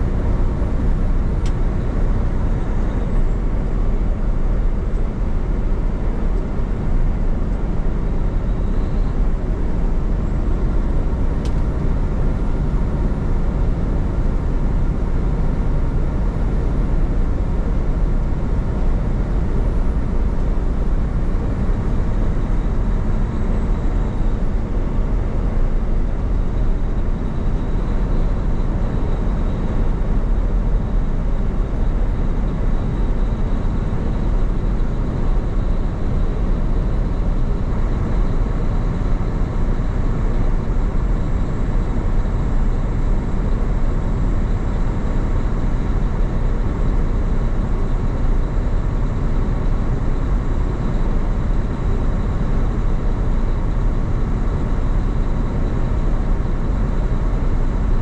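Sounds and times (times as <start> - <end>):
truck engine and road drone: 0.0 - 58.0.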